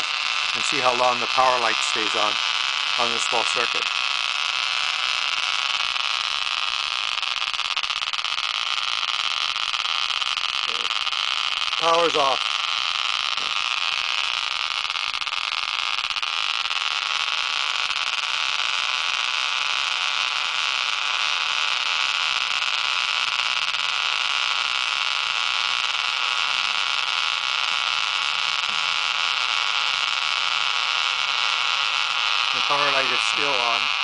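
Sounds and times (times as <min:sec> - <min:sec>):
magnet ball spinning whirring hiss: 0:00.0 - 0:34.0.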